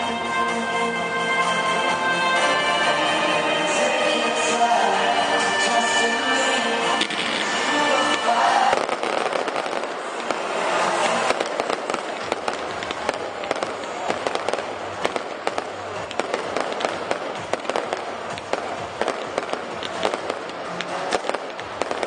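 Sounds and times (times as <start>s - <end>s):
dense crackle of fireworks: 0.0s - 22.0s.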